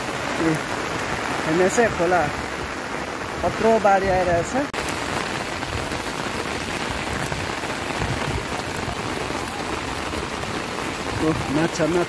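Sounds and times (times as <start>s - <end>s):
rain falling on shallow water: 0.0s - 12.0s.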